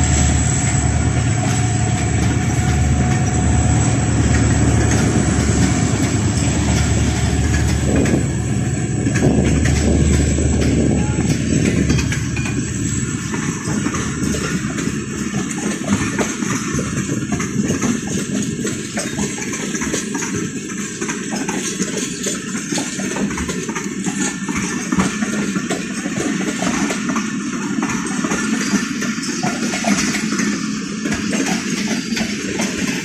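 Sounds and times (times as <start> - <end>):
diesel locomotive rumble: 0.0 - 33.0
train wheels clattering over rail joints: 0.0 - 33.0.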